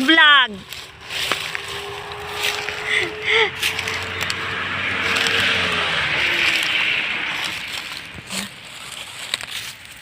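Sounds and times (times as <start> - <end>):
motor vehicle passing: 0.0 - 10.0.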